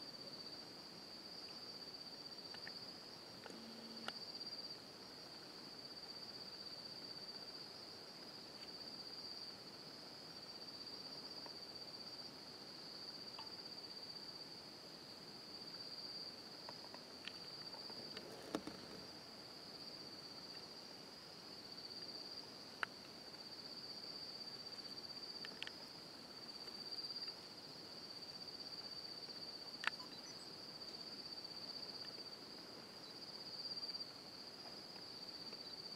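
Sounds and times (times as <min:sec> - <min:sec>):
faint cricket chorus chirring: 0:00.0 - 0:35.9.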